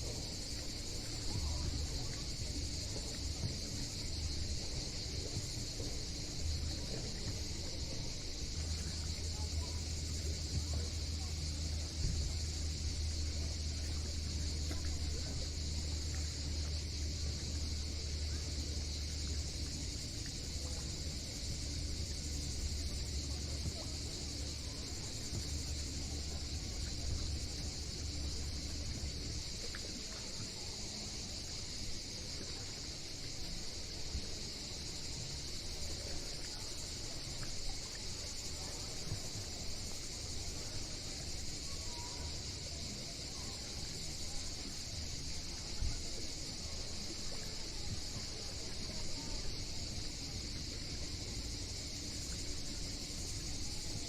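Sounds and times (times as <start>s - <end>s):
cicadas singing: 0.0s - 54.0s.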